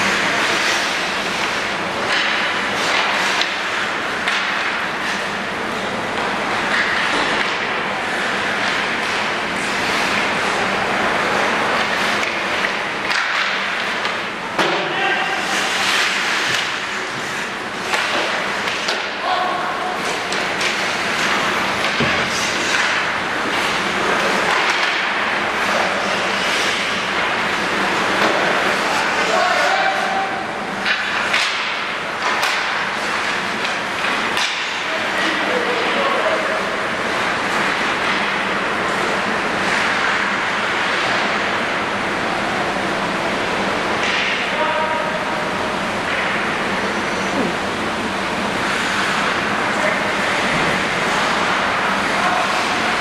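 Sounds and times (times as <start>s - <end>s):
skate blades scraping ice: 0.1s - 5.8s, 6.5s - 14.3s, 15.2s - 19.1s, 19.9s - 41.6s, 48.6s - 53.0s.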